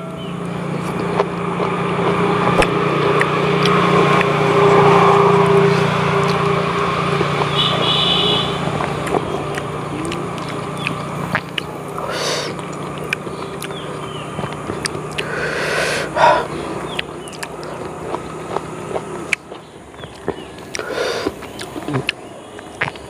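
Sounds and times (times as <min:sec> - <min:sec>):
engine droning: 0:00.0 - 0:23.0.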